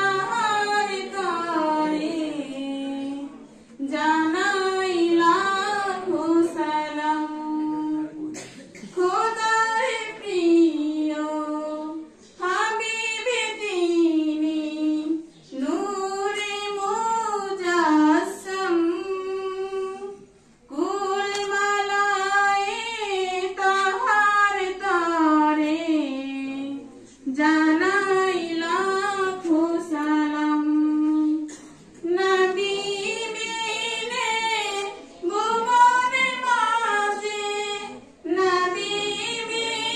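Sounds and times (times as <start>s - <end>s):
woman singing unaccompanied: 0.0s - 8.3s, 9.0s - 39.9s.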